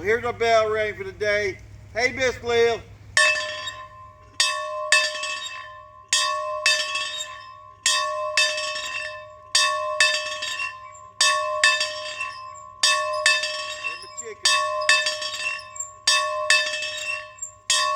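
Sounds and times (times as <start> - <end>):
bell ringing ding-dong: 3.2 - 17.9.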